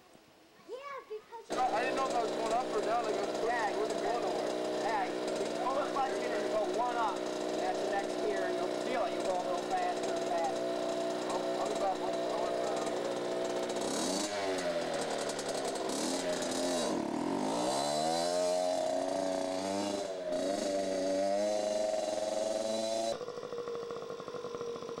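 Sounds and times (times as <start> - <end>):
dirt bike engine revving: 1.5 - 25.0.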